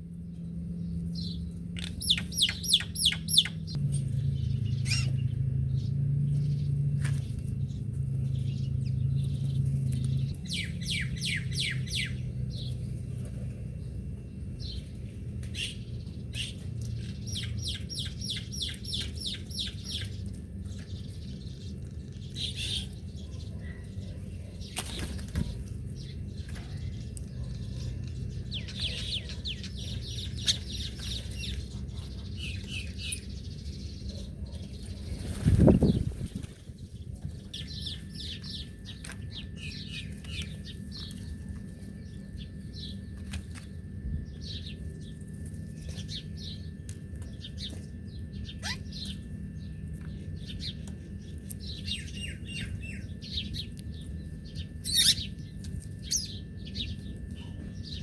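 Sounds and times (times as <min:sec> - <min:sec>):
steady low rumble: 0:00.0 - 0:58.0
small bird chirping: 0:00.7 - 0:13.1, 0:15.5 - 0:43.4, 0:44.3 - 0:58.0.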